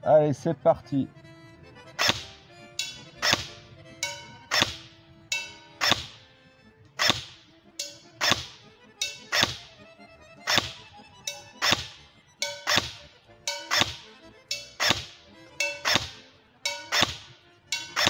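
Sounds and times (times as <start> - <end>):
airsoft gun shots: 2.0 - 6.2, 7.0 - 9.8, 10.4 - 18.0.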